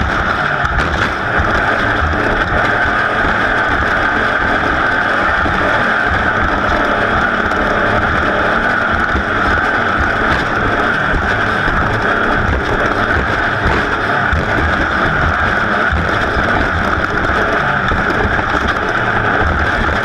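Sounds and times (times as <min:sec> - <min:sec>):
race engine running hard: 0:00.0 - 0:20.0.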